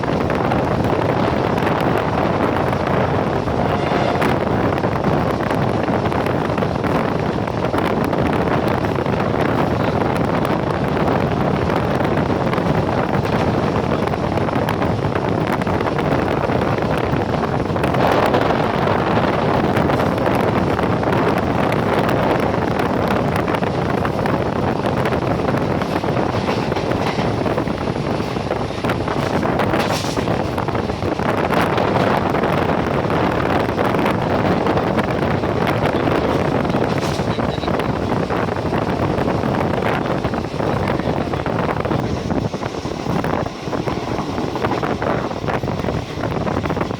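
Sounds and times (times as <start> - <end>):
moving train rushing: 0.0 - 46.9
wind buffeting microphone: 0.0 - 46.9.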